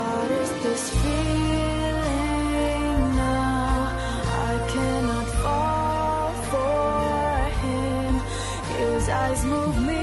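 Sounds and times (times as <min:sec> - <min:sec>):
song with held notes: 0:00.0 - 0:10.0
low bass: 0:01.0 - 0:10.0.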